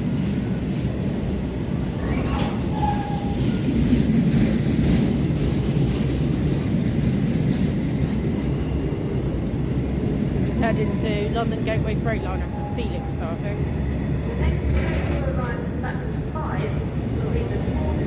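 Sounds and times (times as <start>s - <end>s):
freight train rumbling on track: 0.0s - 18.0s
high squeal of train: 0.0s - 18.0s.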